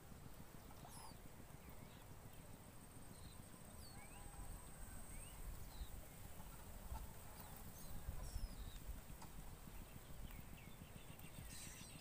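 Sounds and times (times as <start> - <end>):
low irregular rumble: 0.0 - 12.0
small birds chirping: 0.0 - 12.0.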